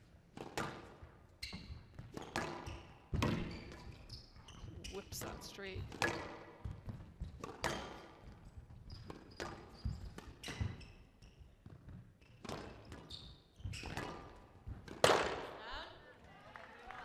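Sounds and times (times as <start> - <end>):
squash ball hitting rackets and walls: 0.0 - 15.6
shoes squeaking on court: 1.3 - 15.1.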